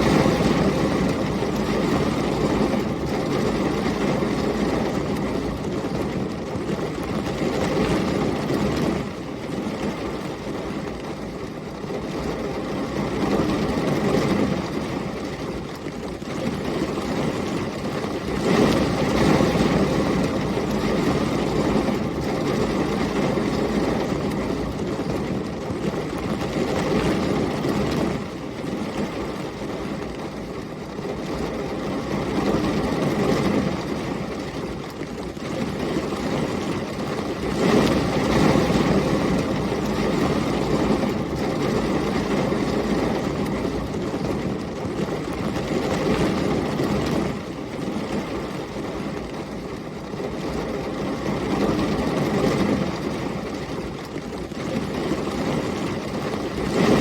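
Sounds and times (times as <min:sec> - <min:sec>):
heavy rain: 0:00.0 - 0:57.0
storm wind: 0:00.0 - 0:57.0.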